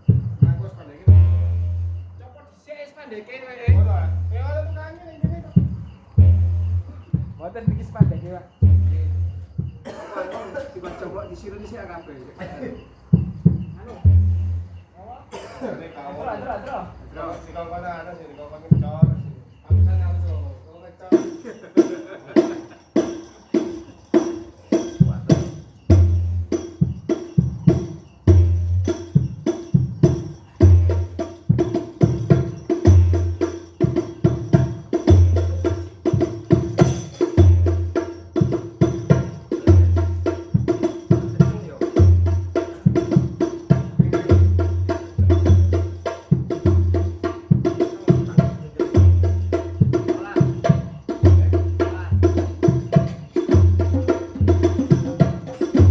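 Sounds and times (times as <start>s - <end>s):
frame drum slaps and jingles: 0.0s - 2.3s, 3.6s - 11.8s, 12.4s - 15.6s, 16.7s - 55.9s.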